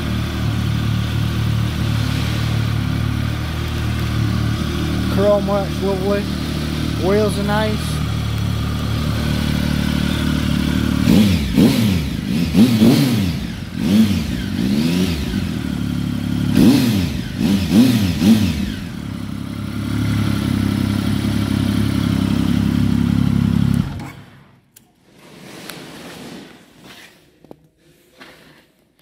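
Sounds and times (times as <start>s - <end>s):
motorcycle engine idling: 0.0s - 24.3s
engine throttle blips: 0.0s - 24.5s.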